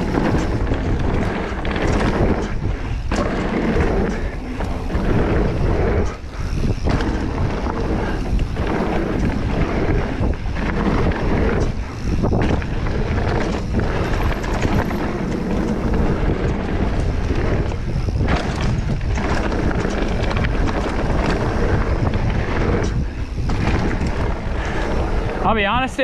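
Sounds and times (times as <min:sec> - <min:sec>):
bike rattling and knocking: 0:00.0 - 0:26.0
wind buffeting camera microphone: 0:00.0 - 0:26.0.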